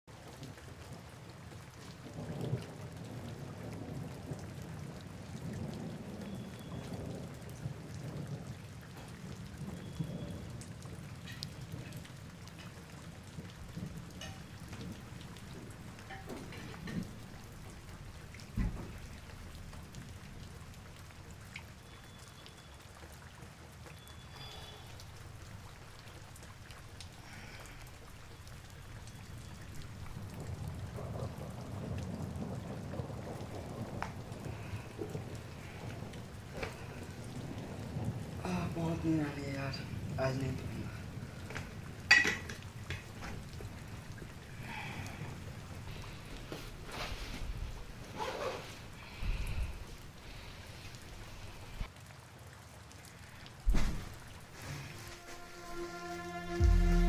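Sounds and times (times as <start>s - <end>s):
steady rain: 0.0s - 57.0s
low rumble of thunder: 0.1s - 52.7s, 53.3s - 57.0s.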